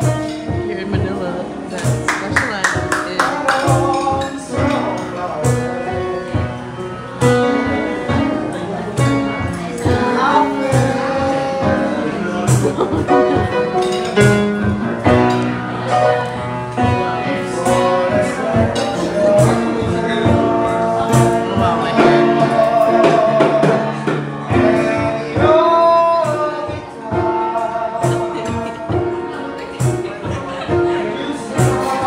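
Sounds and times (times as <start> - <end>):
music with percussive beat: 0.0 - 8.4, 9.0 - 30.9, 31.5 - 32.0
man singing: 3.0 - 32.0.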